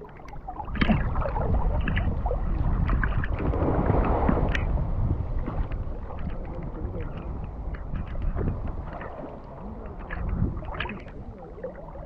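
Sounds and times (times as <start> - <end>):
seawater sloshing and splashing: 0.0 - 12.0
steady low rumble: 0.0 - 12.0.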